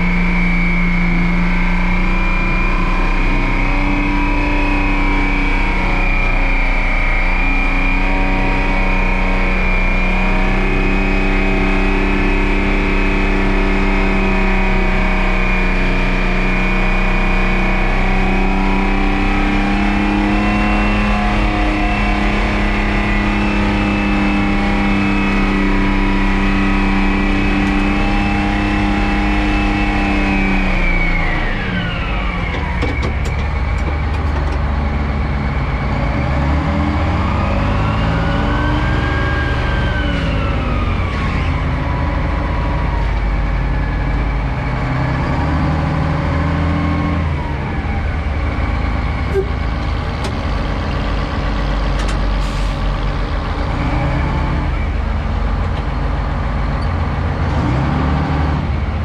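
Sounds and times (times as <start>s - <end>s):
truck diesel engine revving: 0.0s - 59.0s.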